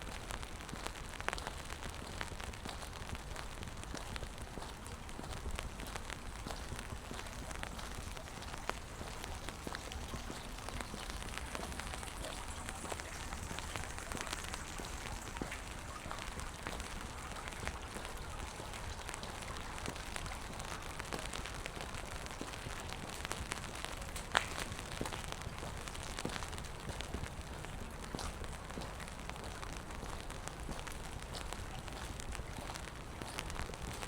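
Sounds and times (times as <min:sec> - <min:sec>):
rain pattering on pavement: 0:00.0 - 0:34.0
small drip ticks: 0:00.2 - 0:34.0.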